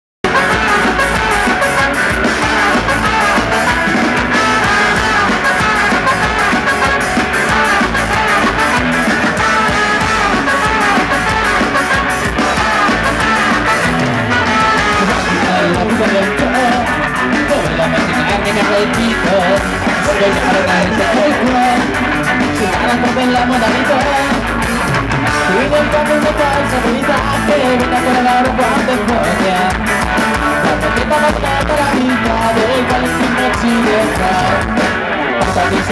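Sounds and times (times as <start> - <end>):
horn section: 0.2 - 29.6
ska-punk band playing live: 0.2 - 35.9.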